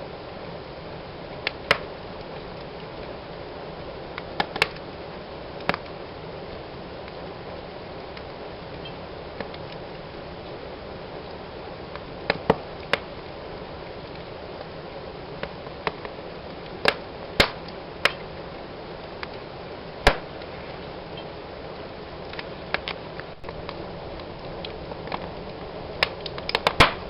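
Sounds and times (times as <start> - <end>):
fire crackling and popping: 0.0 - 27.0
fire hissing: 0.0 - 27.0.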